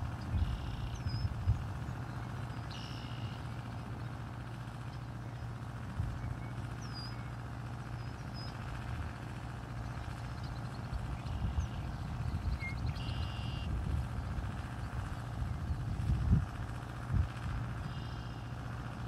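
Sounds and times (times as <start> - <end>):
songbirds chirping: 0.0 - 16.1, 17.6 - 19.0.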